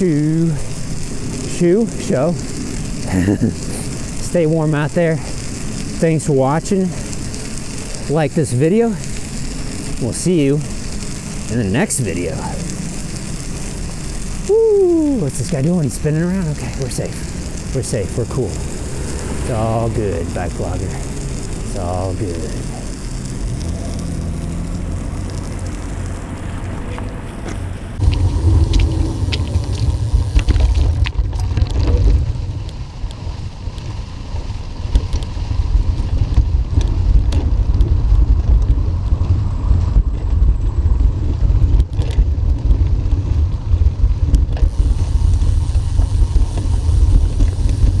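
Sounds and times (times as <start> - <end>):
bicycle clicks and rattles: 0.0 - 48.0
wind rumbling on microphone: 0.0 - 48.0.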